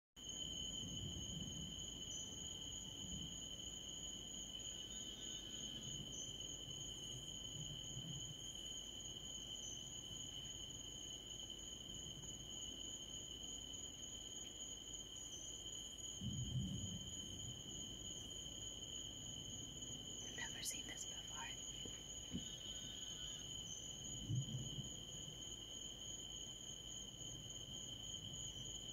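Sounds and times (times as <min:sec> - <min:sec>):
crickets trilling: 0:00.2 - 0:28.9.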